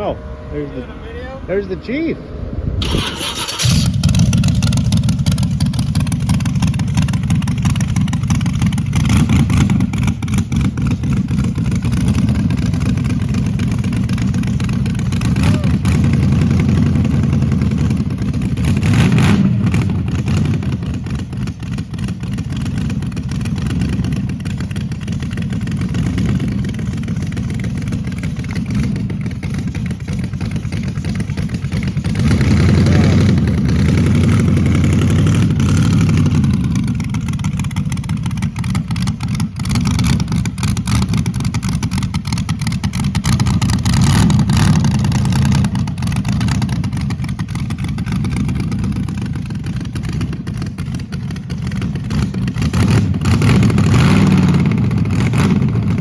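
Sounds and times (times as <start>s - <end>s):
dragster engine revving: 0.0s - 38.0s, 38.7s - 56.0s.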